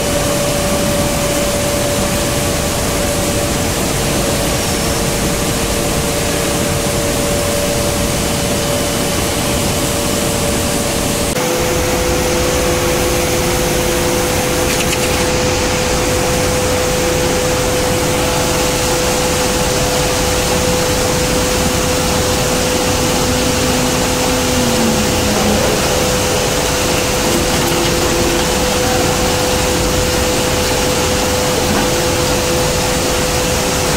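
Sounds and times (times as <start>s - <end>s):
lower machine tone: 0.0s - 33.9s
steel plant machinery din: 0.0s - 33.9s.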